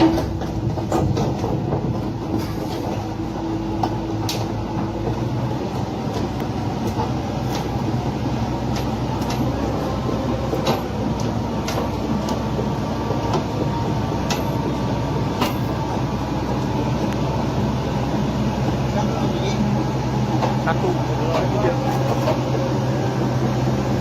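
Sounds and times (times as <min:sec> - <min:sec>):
heavy machinery engine rumbling: 0:00.0 - 0:24.0.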